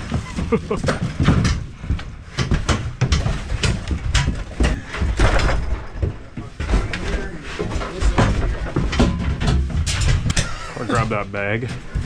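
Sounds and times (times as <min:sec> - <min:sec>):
knocks and clatter: 0:00.0 - 0:12.0.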